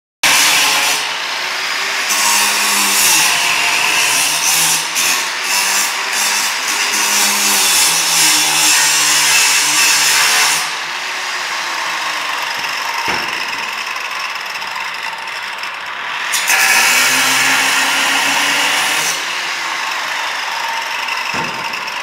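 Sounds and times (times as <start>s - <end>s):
angle grinder grinding metal: 0.2s - 22.0s.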